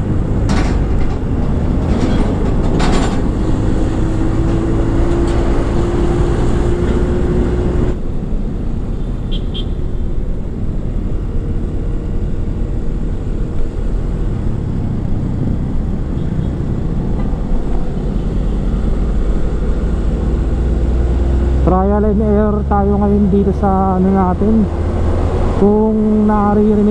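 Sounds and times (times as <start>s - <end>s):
motorcycle engine and wind rumble: 0.0s - 26.9s.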